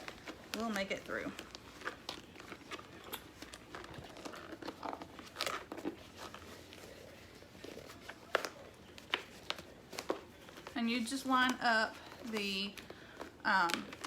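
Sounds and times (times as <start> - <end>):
plastic rustling and crinkling: 0.0 - 14.0.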